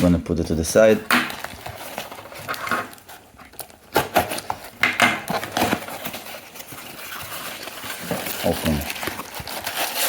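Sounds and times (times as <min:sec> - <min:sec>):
package rustling: 0:00.0 - 0:10.0.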